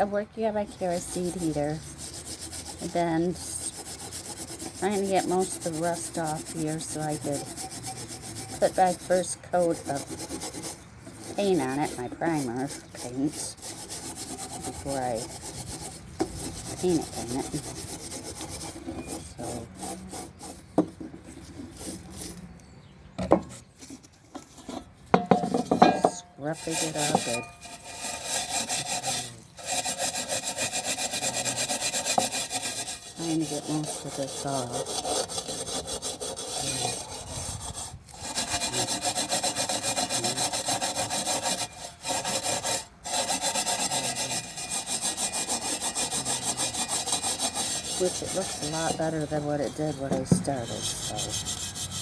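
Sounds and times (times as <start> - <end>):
scrubbing rusty metal: 0.0 - 52.0.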